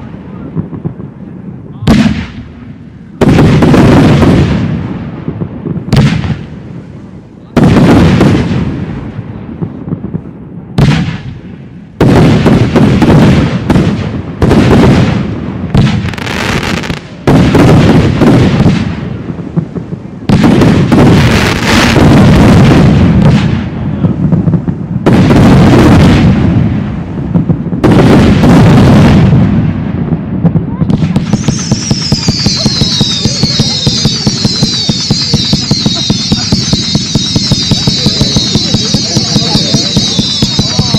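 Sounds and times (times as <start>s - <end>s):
fireworks launching and bursting: 0.0s - 40.9s
loud fireworks bangs: 0.0s - 40.9s.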